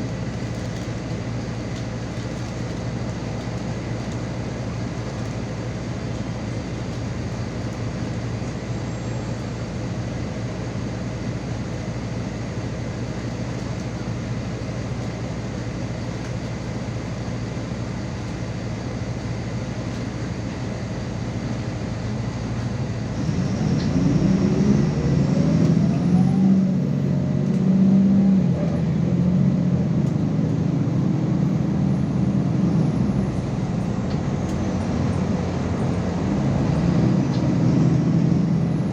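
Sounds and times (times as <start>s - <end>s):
bus engine hum: 0.0s - 38.9s.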